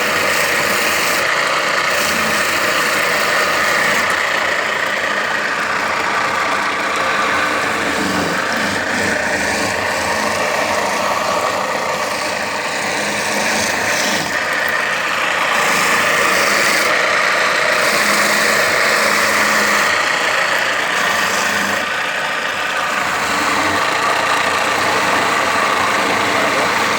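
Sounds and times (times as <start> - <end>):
motor running steadily: 0.0 - 26.9.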